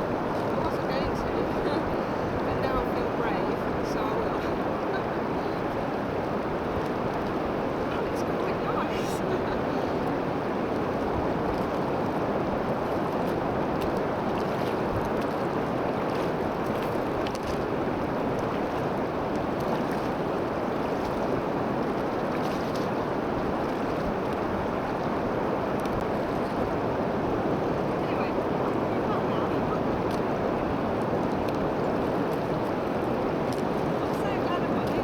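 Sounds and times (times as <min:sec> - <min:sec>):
sea surf breaking on shore: 0:00.0 - 0:35.0.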